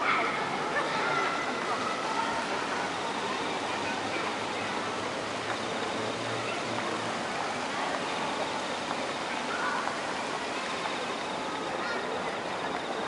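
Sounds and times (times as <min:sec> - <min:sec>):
faint indistinct voices: 0:00.0 - 0:13.0.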